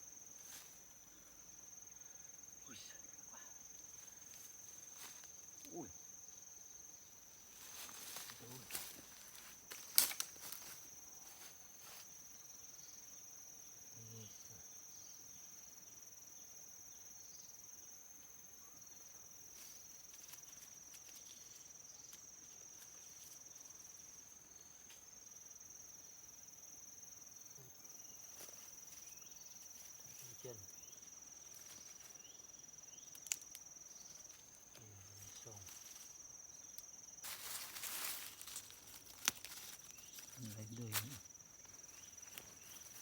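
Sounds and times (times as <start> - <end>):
high-pitched insect trill: 0.0 - 43.0.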